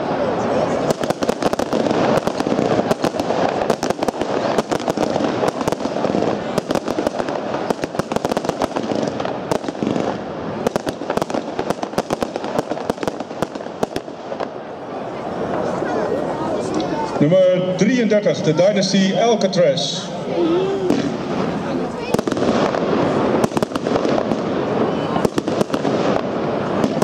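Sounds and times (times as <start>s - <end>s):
firework cake firing: 0.0s - 17.1s, 20.6s - 27.0s.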